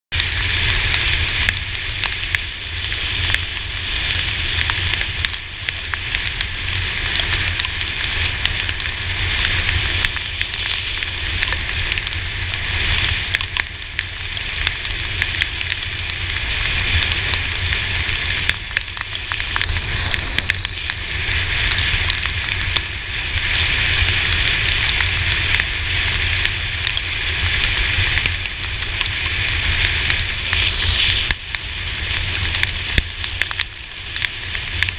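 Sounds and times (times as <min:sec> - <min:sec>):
low rumble: 0:00.1 - 0:34.9
rain crackling on camera housing: 0:00.1 - 0:34.9.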